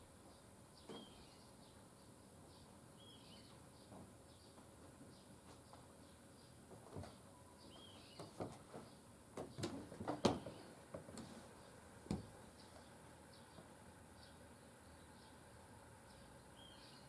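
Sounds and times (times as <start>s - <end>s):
small birds chirping: 0.2s - 17.0s.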